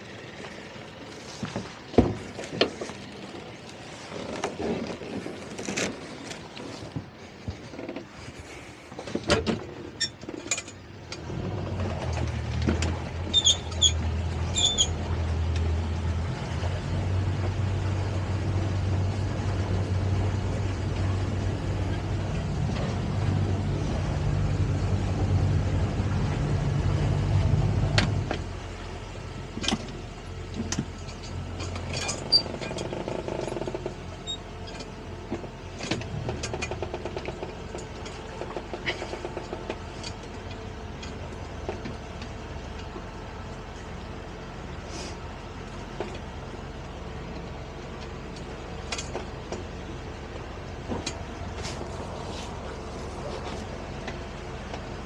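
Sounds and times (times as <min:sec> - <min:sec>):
boat motor droning: 0:00.0 - 0:55.0.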